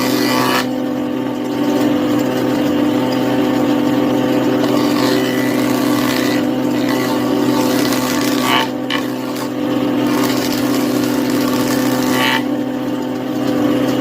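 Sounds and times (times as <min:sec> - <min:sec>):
power tool motor humming: 0:00.0 - 0:14.0.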